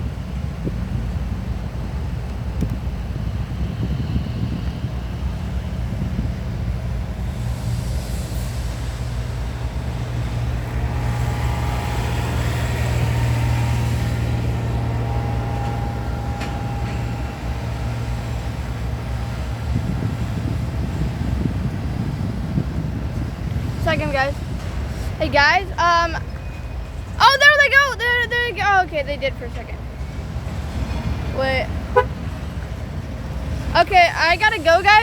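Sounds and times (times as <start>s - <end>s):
locomotive engines humming: 0.0s - 35.0s.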